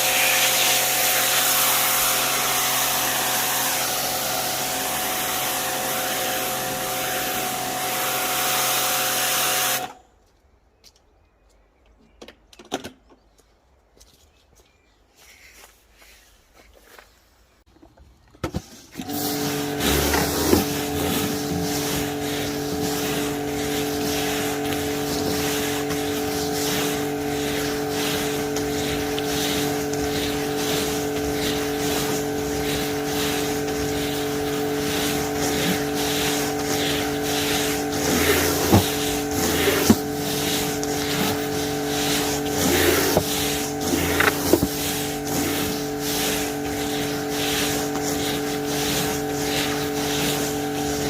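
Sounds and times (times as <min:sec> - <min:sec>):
pressure washer motor humming: 0:00.0 - 0:10.0, 0:19.0 - 0:51.0
water jet hissing: 0:00.0 - 0:10.0, 0:19.0 - 0:51.0.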